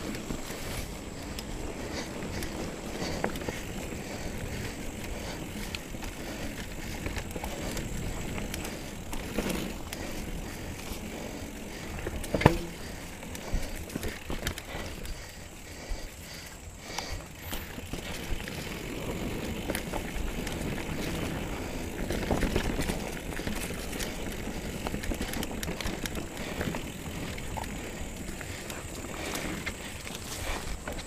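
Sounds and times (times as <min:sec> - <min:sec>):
bike rattles and knocks: 0:00.0 - 0:16.4, 0:17.0 - 0:31.0
bike tyres rolling on dirt: 0:00.0 - 0:31.0.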